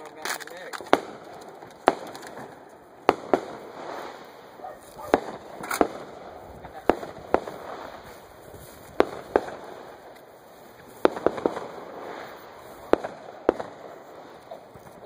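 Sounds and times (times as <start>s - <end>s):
fireworks bangs and pops: 0.0s - 15.0s.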